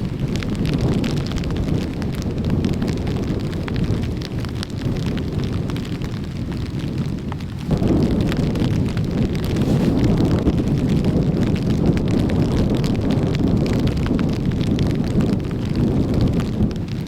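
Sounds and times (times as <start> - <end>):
hard rain drops striking: 0.0 - 17.0
strong wind on microphone: 0.0 - 17.0.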